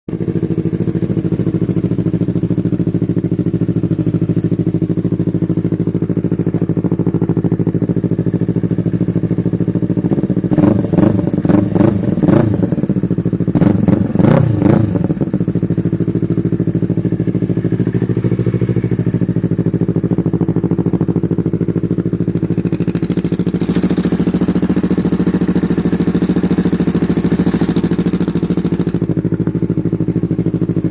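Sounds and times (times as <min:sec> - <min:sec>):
motorcycle engine idling: 0:00.1 - 0:30.9.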